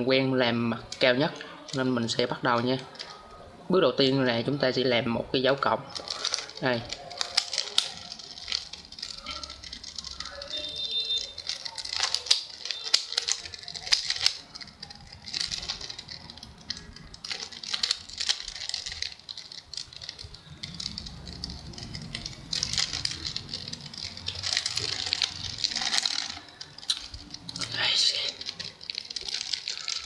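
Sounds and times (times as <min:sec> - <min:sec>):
puzzle cube clicking and rattling: 0:00.8 - 0:03.4, 0:05.8 - 0:30.0.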